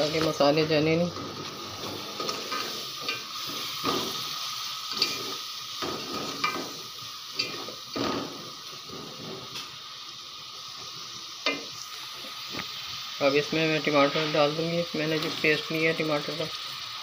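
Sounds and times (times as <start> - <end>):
spices sizzling in hot fat: 0.0 - 17.0.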